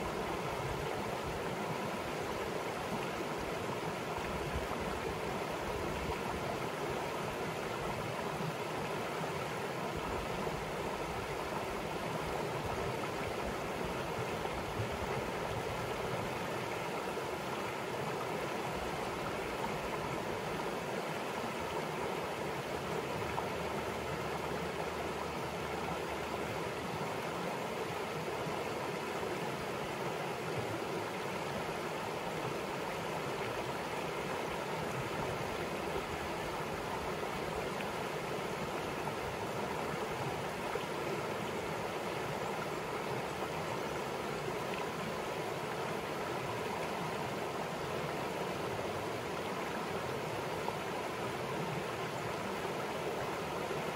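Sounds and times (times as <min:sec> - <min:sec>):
river rushing over rocks: 0:00.0 - 0:53.9.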